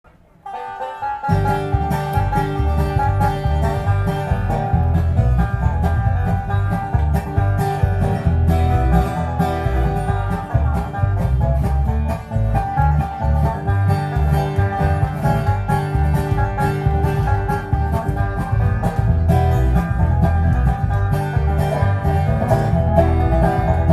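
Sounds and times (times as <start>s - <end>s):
guitar: 0.0s - 23.9s
picked banjo: 0.1s - 23.9s
pulsing bass line: 1.0s - 23.9s.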